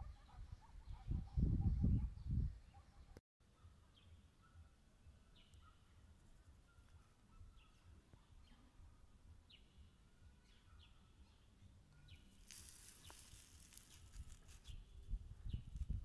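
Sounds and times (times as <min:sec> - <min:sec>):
faint bird chirps: 0:00.0 - 0:15.9.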